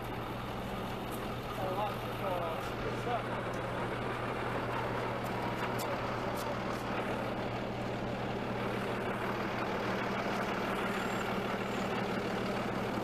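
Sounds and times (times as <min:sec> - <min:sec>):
tow truck engine idling: 0:00.0 - 0:13.0.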